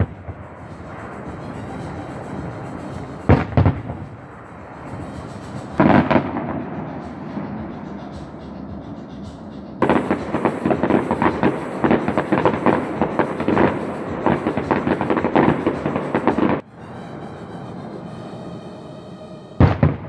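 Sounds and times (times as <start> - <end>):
fireworks bangs and crackles: 0.0 - 16.6, 19.6 - 20.0.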